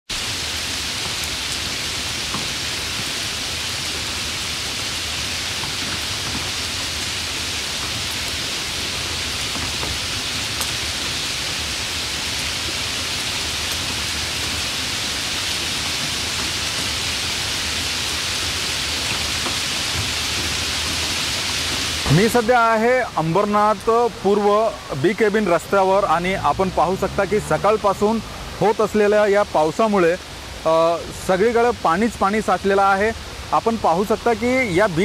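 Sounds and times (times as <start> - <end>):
heavy rain on water: 0.1 - 35.0.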